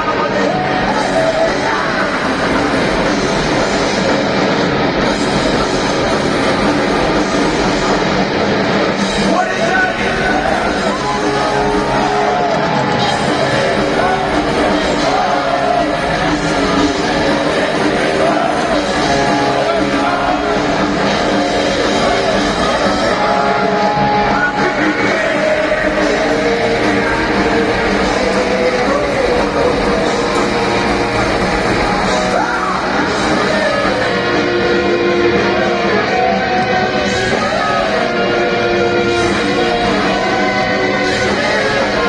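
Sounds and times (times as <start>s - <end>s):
person singing: 0.0s - 4.4s, 9.0s - 42.0s
heavy metal band playing live: 0.0s - 42.0s.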